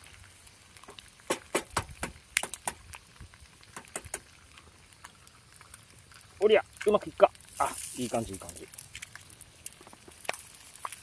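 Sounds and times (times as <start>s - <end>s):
bacon frying with pops: 0.0s - 11.0s.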